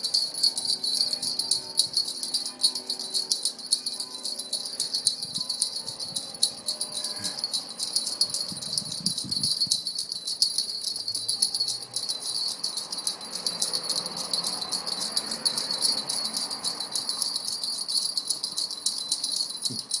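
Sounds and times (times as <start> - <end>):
bells jingling rapidly: 0.0 - 20.0.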